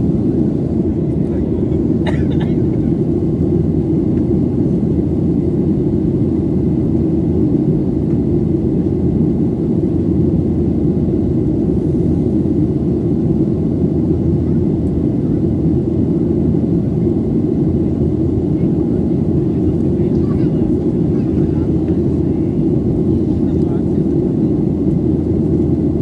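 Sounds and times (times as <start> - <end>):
airplane cabin engine roar: 0.0 - 26.0.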